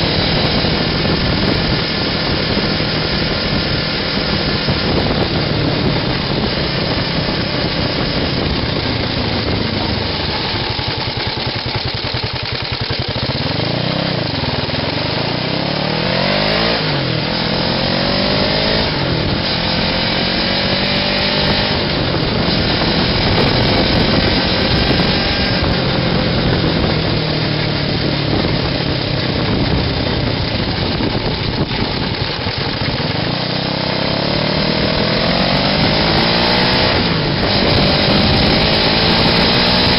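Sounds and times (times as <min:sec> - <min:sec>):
small buggy engine revving: 0:00.0 - 0:39.9.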